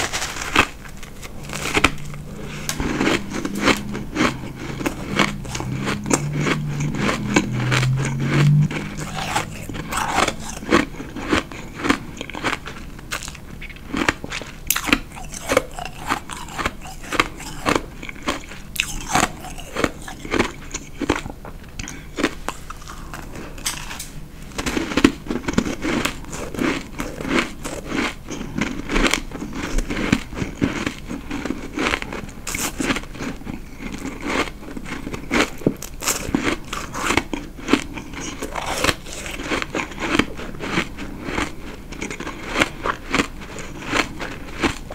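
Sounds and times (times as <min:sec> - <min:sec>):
crunching ice chewing: 0:00.0 - 0:44.9.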